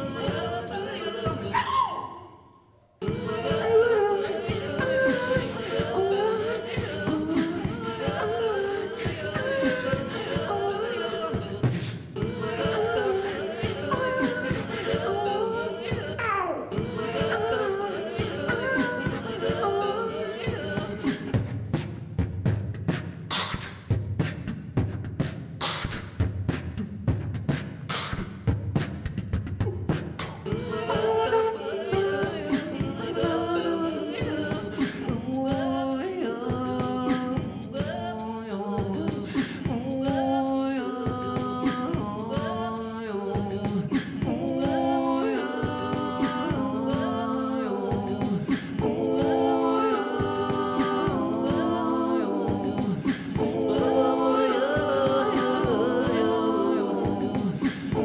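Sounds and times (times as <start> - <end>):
layered sung vocals: 0.0 - 22.2, 29.6 - 58.0
beatboxing: 3.0 - 58.0.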